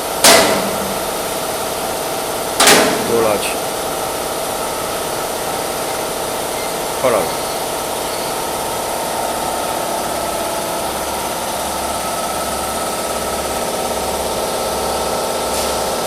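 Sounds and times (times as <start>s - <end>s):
welding machine droning: 0.0s - 16.0s.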